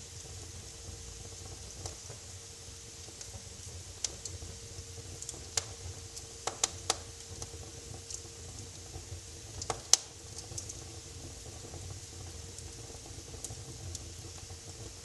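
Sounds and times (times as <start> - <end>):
low rumble of burning: 0.0 - 15.0
wood fire crackling and popping: 0.0 - 15.0.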